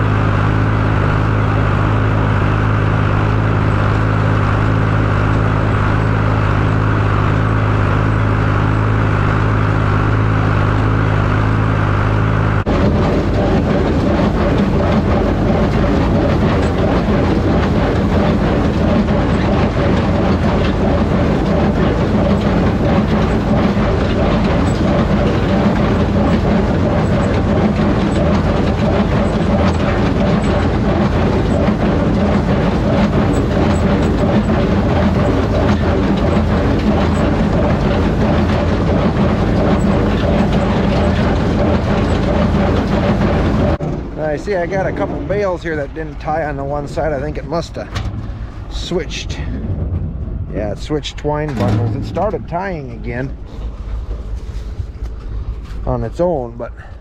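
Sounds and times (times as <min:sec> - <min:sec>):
tractor engine running: 0:00.0 - 0:57.0
tractor pulling baler rattling: 0:00.0 - 0:57.0.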